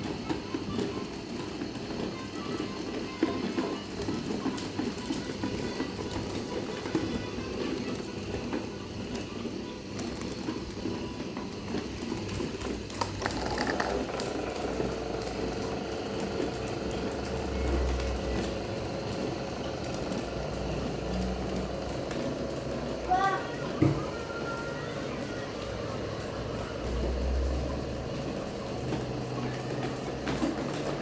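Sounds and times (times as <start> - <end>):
electric fan whirring hum: 0.0 - 31.0.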